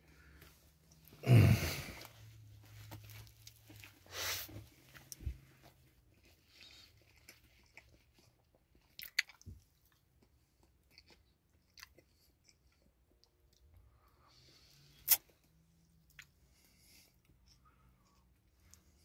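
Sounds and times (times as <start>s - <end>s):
person chewing: 0.2s - 5.4s, 6.1s - 13.8s, 14.8s - 19.0s.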